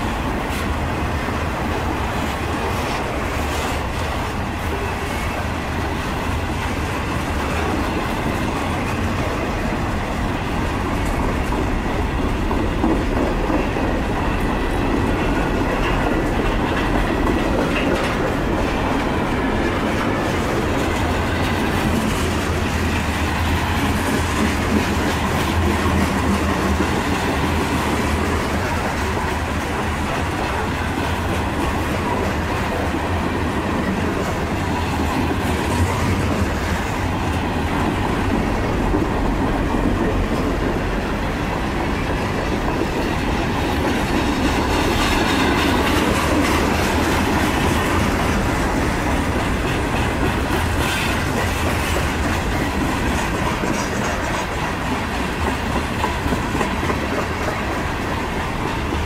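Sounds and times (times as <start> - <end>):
freight train rumbling: 0.0 - 59.0
wheels clacking over rail joints: 0.0 - 59.0.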